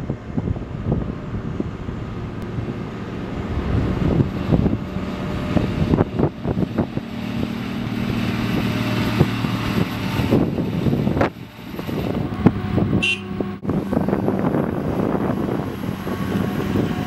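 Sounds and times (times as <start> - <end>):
wheel loader diesel engine: 0.0 - 17.0.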